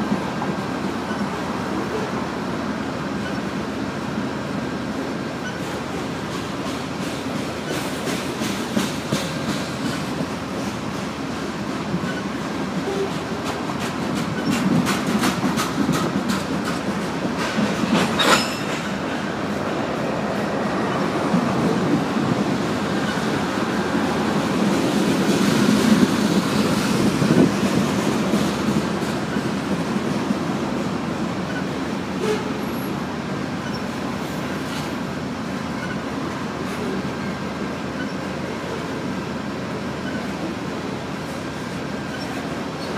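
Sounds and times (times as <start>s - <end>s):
train rumble: 0.0s - 42.9s
train wheels clicking over rail joints: 4.9s - 42.9s.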